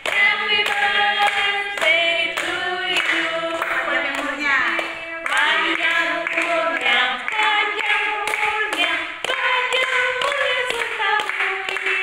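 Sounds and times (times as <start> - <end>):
group singing a celebration song: 0.0 - 12.0
hands clapping: 0.0 - 12.0.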